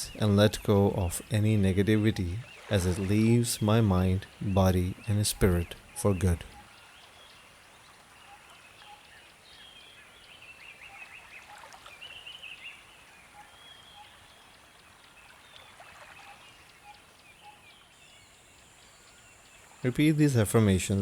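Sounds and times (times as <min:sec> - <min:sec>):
low steady hiss: 0:00.0 - 0:21.0
small birds chirping: 0:00.0 - 0:21.0.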